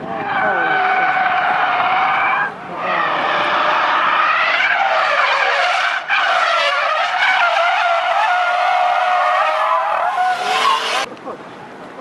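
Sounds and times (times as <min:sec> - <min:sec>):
car tyres squealing: 0:00.0 - 0:11.1.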